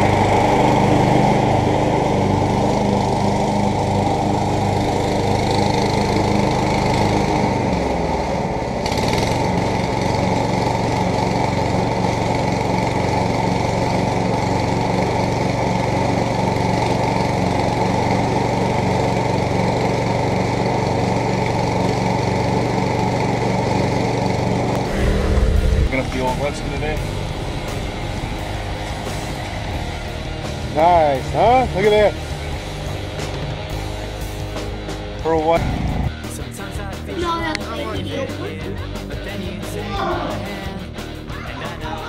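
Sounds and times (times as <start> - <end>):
lawn tractor engine running: 0.0 - 36.0.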